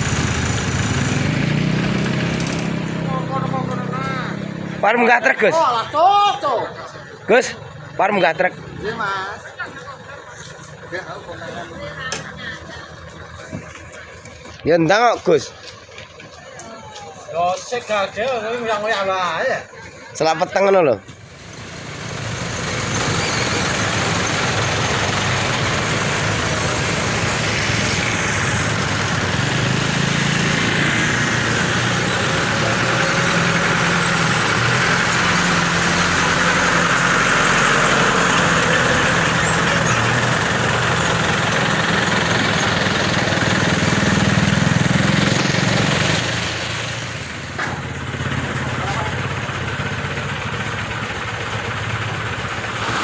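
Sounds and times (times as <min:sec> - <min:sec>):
road noise: 0:00.0 - 0:53.0
truck engine driving past: 0:00.0 - 0:53.0.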